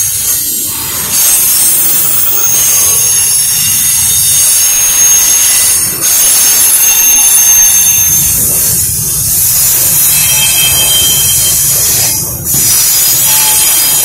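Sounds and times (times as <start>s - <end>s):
freight train rumbling: 0.0s - 14.0s
wheels squealing on rails: 0.0s - 14.0s.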